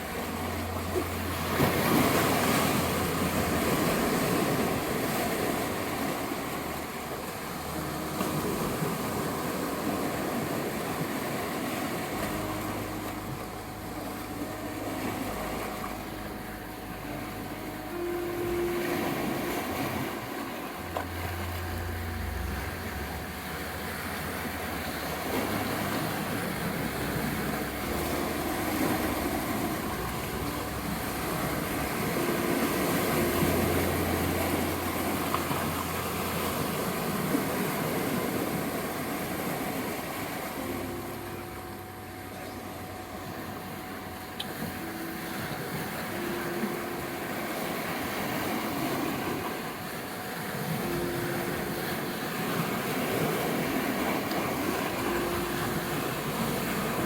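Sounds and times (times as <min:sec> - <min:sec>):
sea surf washing ashore: 0:00.0 - 0:57.0
soft sustained low notes: 0:00.0 - 0:57.0
thin steady tone: 0:00.0 - 0:57.0.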